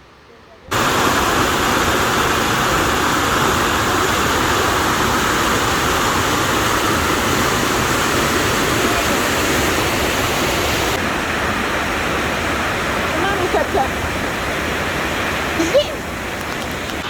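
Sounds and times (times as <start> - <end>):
waterfall pouring: 0.7 - 17.0.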